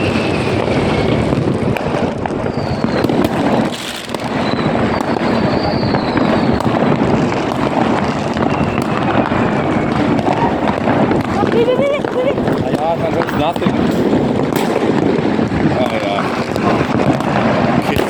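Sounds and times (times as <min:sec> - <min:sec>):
falling firework whistles: 0:00.0 - 0:18.0
fireworks popping and crackling: 0:00.0 - 0:18.0.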